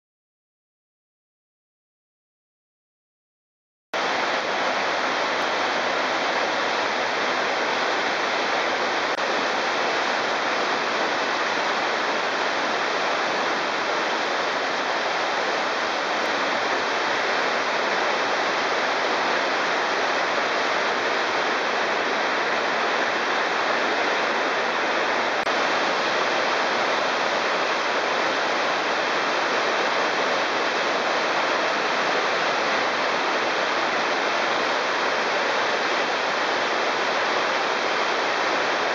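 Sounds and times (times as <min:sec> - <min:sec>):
stream and small waterfalls rushing: 0:04.0 - 0:38.9.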